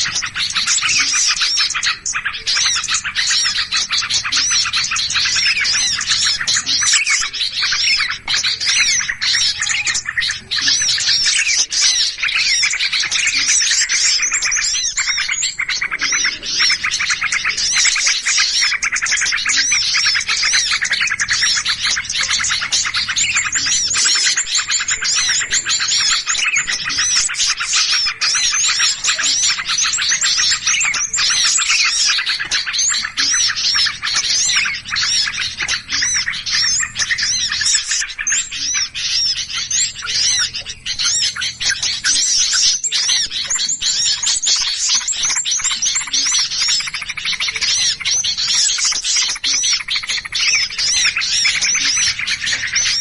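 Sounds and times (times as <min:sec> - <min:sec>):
flock of small birds chirping: 0:00.0 - 0:53.0.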